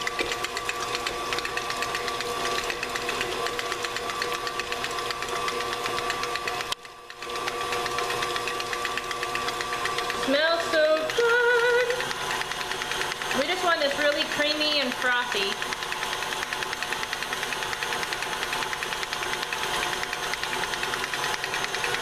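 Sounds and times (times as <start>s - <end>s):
stand mixer motor humming: 0.0s - 22.0s.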